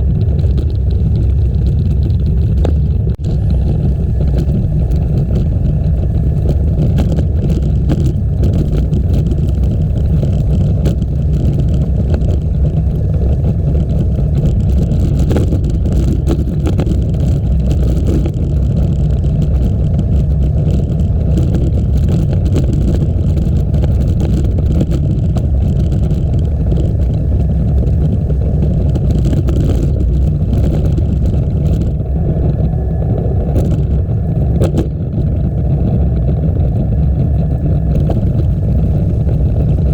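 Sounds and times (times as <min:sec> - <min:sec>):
bike road and trail noise: 0:00.0 - 0:39.9
wind buffeting microphone: 0:00.0 - 0:39.9.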